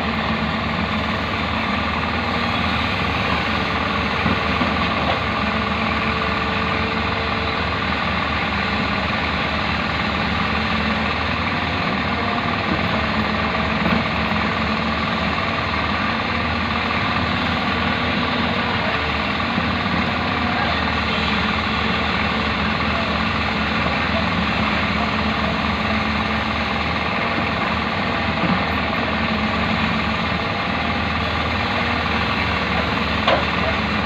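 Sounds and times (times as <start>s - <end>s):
backhoe diesel engine running: 0.0s - 34.0s.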